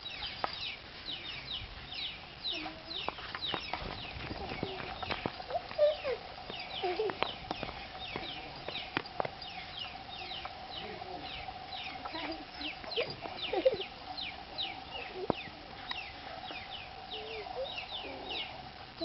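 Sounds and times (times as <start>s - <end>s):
chicks peeping: 0.0s - 19.0s
steady hum: 0.0s - 19.0s.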